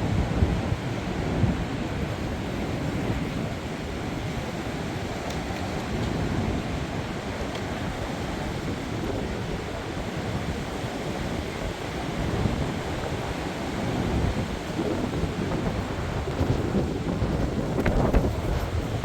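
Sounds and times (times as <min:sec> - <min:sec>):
gusting wind buffeting microphone: 0:00.0 - 0:19.0.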